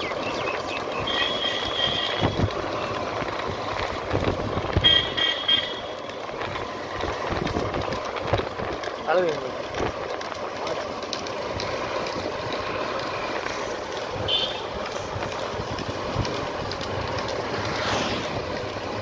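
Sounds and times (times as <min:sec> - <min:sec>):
vehicle rumbling and rattling: 0:00.0 - 0:19.0.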